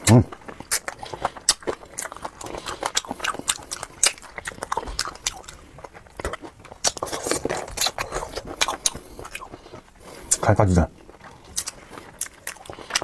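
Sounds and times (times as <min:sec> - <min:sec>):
chewing and crunching: 0:00.0 - 0:13.0.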